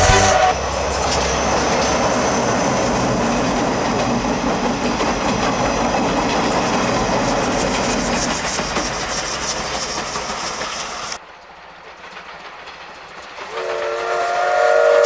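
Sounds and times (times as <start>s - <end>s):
train wheels clattering on bridge: 0.1s - 14.5s.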